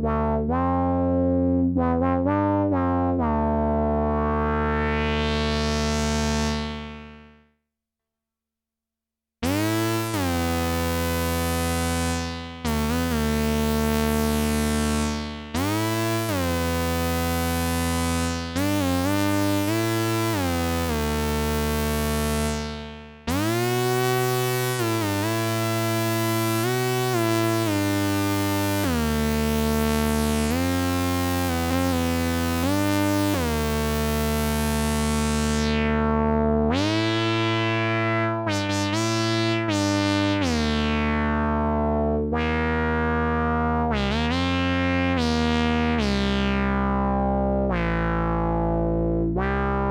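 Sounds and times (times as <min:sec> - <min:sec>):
buzzy synthesizer notes gliding: 0:01.8 - 0:07.3, 0:09.4 - 0:49.9.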